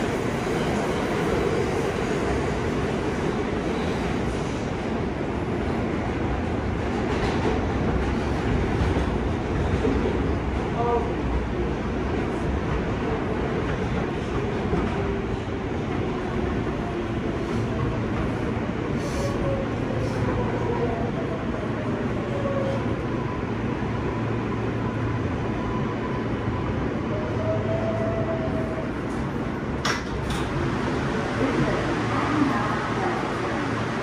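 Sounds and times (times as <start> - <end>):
subway wheels rumbling: 0.0 - 34.0.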